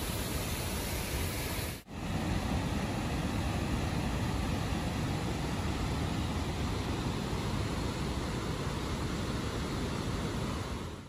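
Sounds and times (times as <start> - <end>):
floodwater rushing roar: 0.0 - 11.0.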